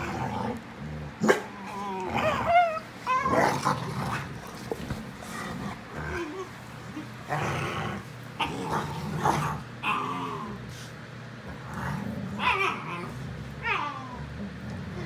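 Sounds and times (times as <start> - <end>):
dogs growling: 0.0 - 15.0.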